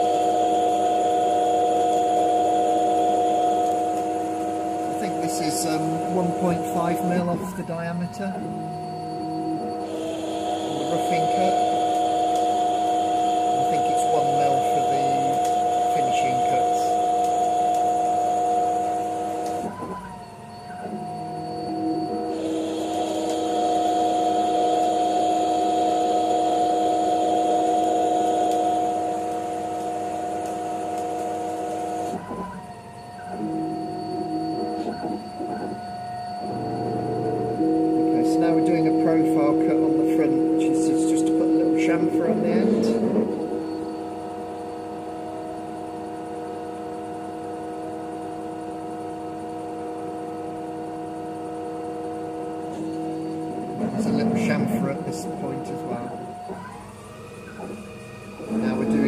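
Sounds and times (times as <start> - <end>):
lathe machine whine: 0.0 - 59.0.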